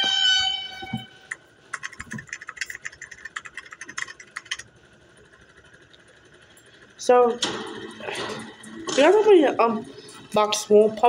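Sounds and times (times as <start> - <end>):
rapid clicking and rattling: 1.7 - 11.0.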